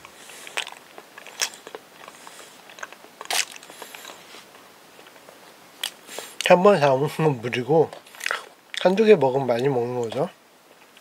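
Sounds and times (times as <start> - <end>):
quiet chewing: 0.0 - 6.6, 7.8 - 11.0.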